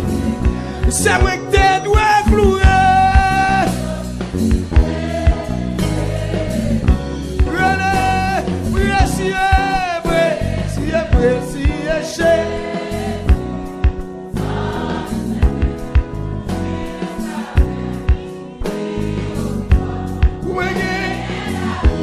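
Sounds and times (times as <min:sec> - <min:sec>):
band with drum beat: 0:00.0 - 0:22.0
choir singing gospel: 0:00.0 - 0:22.0.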